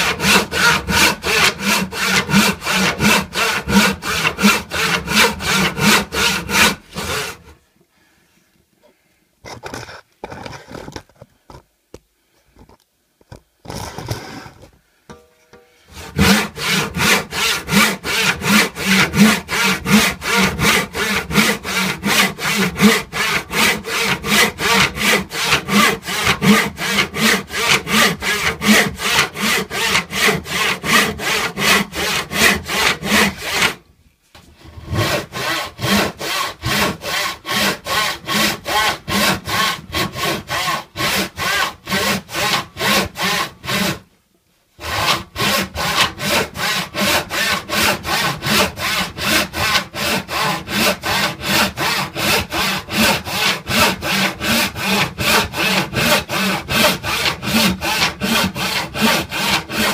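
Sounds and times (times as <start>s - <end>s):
handsaw cutting wood: 0.0s - 7.5s, 15.9s - 33.8s, 34.6s - 44.0s, 44.8s - 59.9s.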